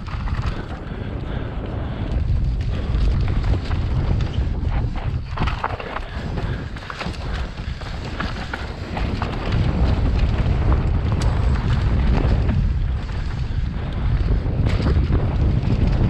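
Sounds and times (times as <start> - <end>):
bike clicks and knocks: 0.0 - 16.0
bike tyre rumble: 0.0 - 16.0
wind buffeting microphone: 0.0 - 16.0.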